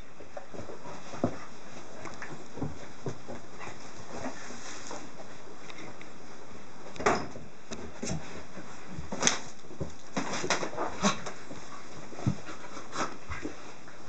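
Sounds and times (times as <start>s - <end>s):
dogs scuffling: 0.0s - 14.0s.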